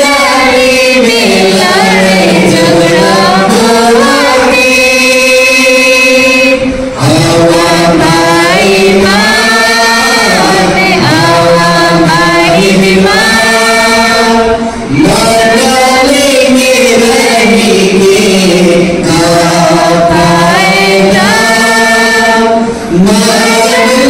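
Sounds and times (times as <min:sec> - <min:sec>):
man singing a hymn: 0:00.0 - 0:24.0.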